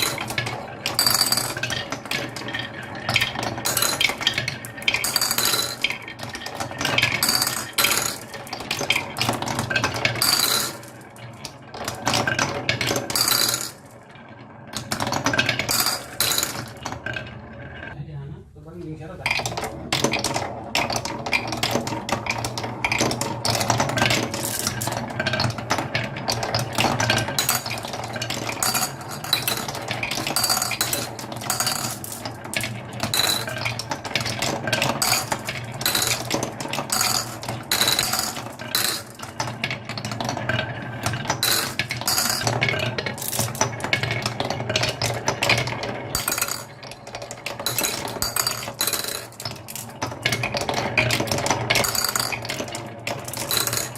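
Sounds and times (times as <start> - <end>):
marbles clattering down a track: 0.0 - 18.0, 19.2 - 53.9.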